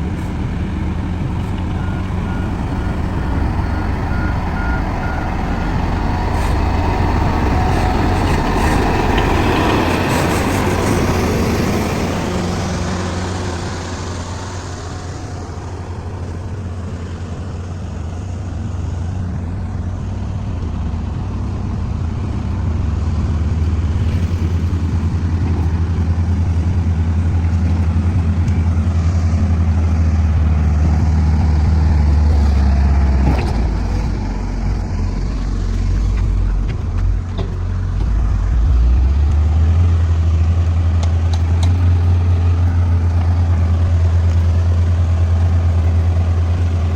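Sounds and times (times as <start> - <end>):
bulldozer diesel engine droning: 0.0 - 46.9.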